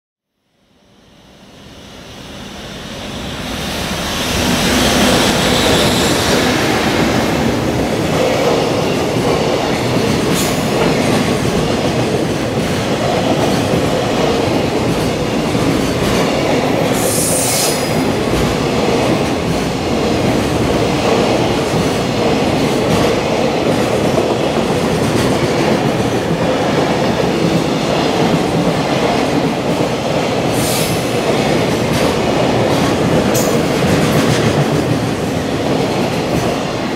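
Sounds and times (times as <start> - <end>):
freight train rumbling past: 0.7 - 36.9.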